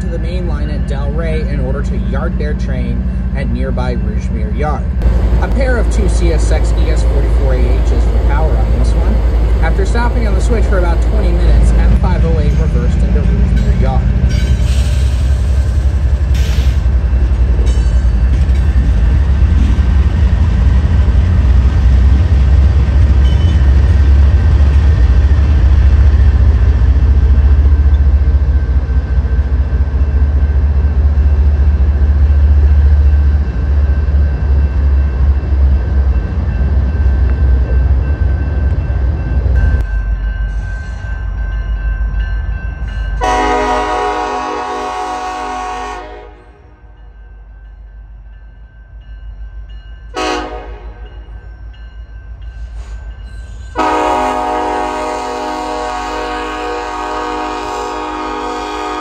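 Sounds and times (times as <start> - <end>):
diesel locomotive engines: 0.0 - 59.0.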